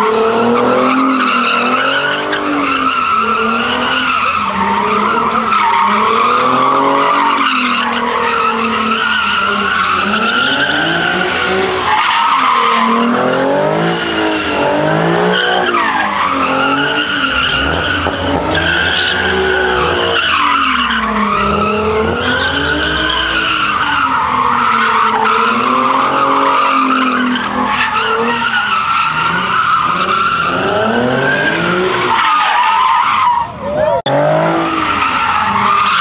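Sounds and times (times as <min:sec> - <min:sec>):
car engine revving: 0:00.0 - 0:36.0
tyres squealing: 0:00.9 - 0:36.0.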